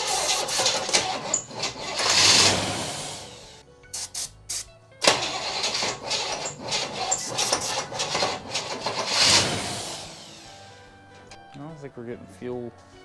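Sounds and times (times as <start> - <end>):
starter clicks: 0.0 - 11.8
car engine cranking: 0.0 - 13.0.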